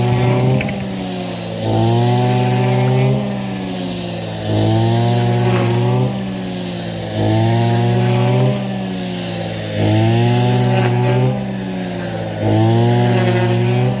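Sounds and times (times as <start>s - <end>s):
small engine revving: 0.0s - 14.0s.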